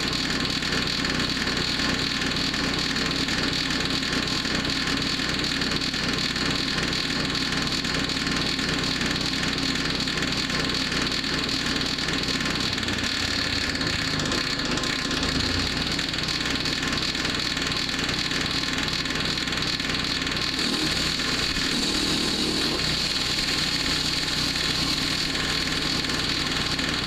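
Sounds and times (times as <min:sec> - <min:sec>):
small gasoline engine running: 0:00.0 - 0:27.0.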